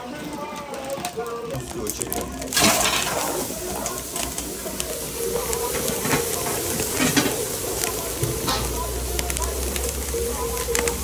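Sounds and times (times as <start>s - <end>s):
food sizzling in a pan: 0.0s - 11.0s
utensil scraping a pan: 0.0s - 11.0s.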